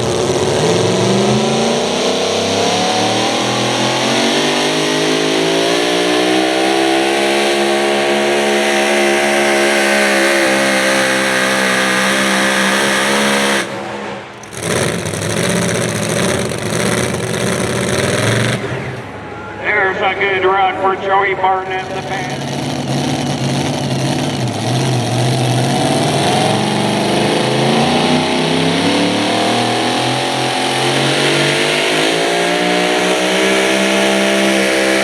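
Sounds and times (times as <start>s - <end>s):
truck engine at full throttle: 0.0s - 35.0s.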